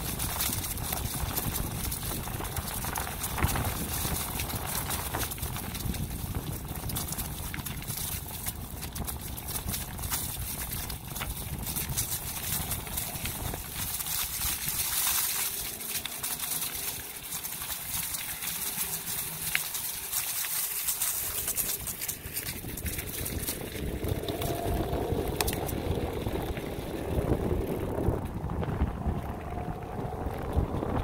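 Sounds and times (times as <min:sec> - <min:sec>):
bicycle tyres crunching dry leaves: 0:00.0 - 0:31.0
low rumble: 0:00.0 - 0:31.0.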